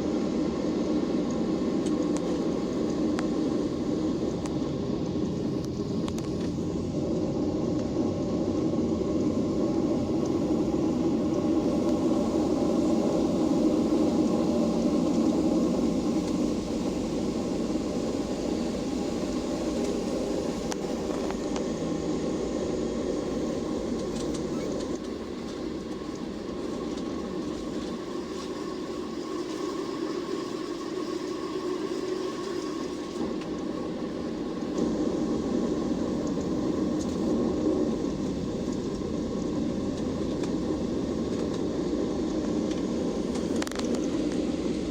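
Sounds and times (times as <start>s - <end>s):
airplane cabin engine rumble: 0.0s - 44.9s
faint hum: 0.0s - 44.9s.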